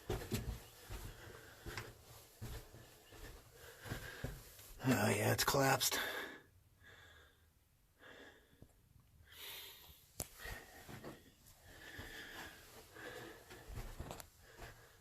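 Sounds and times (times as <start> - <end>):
person breathing softly: 0.8 - 4.8, 6.0 - 15.0.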